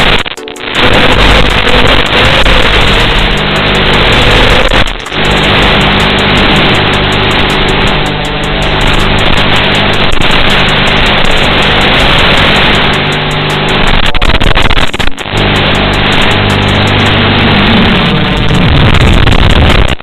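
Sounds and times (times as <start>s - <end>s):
drone motors buzzing: 0.0s - 20.0s.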